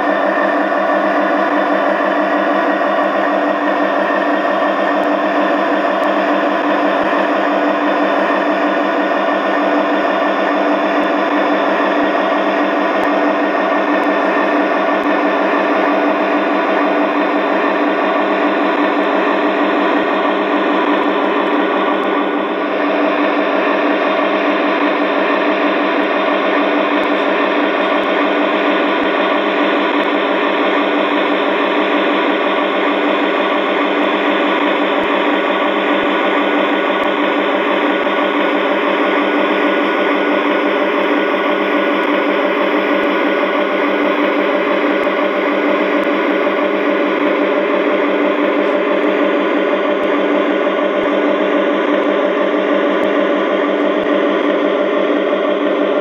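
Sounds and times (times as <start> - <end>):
diesel engine sound from small speaker: 0.0 - 56.0.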